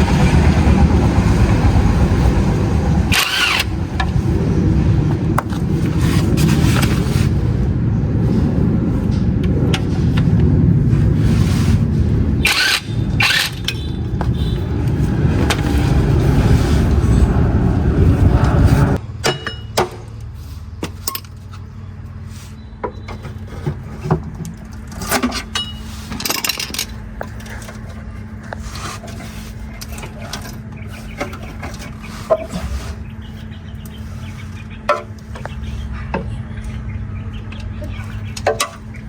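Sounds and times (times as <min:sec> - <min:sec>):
vehicle engine running: 0:00.0 - 0:19.2, 0:25.6 - 0:39.0.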